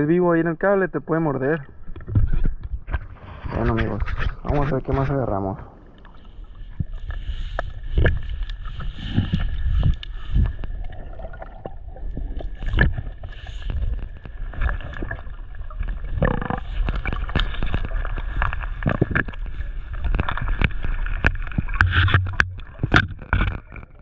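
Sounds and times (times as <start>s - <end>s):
underwater rumble of water: 0.0s - 24.0s
underwater clicks and crackles: 1.1s - 24.0s.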